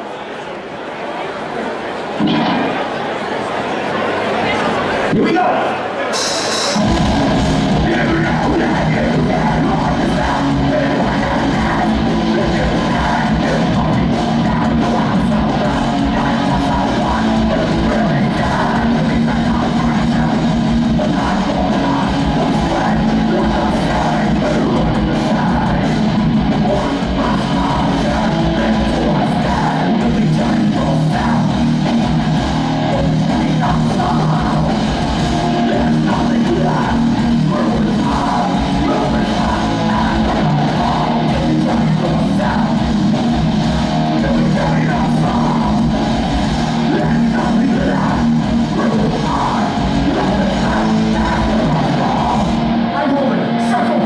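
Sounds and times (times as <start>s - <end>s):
distorted electric guitars: 2.2s - 3.3s, 5.0s - 54.0s
singer yelling vocals: 5.1s - 54.0s
drum kit: 6.2s - 52.8s
bass guitar: 6.6s - 54.0s.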